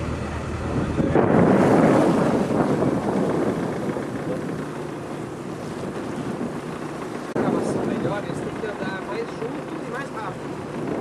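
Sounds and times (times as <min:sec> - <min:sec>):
water rushing against boat: 0:00.0 - 0:11.0
wind buffeting microphone: 0:00.0 - 0:11.0.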